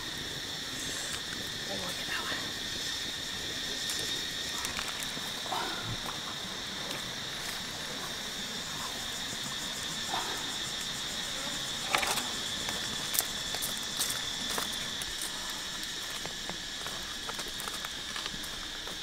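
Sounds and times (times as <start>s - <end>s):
insects droning: 0.0s - 19.0s
wood fire crackling: 0.0s - 19.0s.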